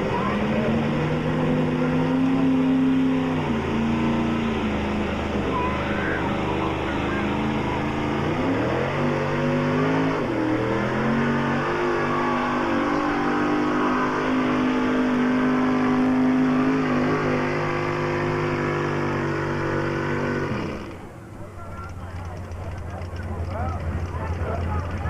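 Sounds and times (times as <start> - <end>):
truck engine revving high: 0.0 - 25.0.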